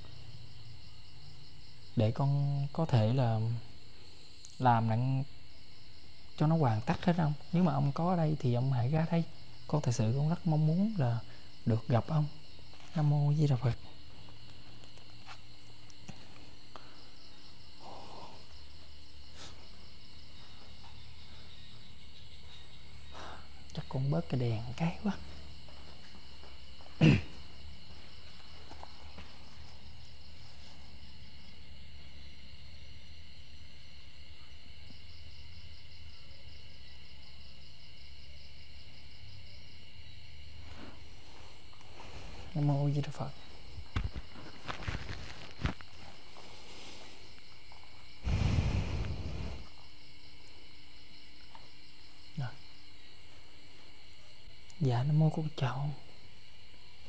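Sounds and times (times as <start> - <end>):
crickets trilling: 0.0 - 57.0
night insects chirring: 0.0 - 57.0.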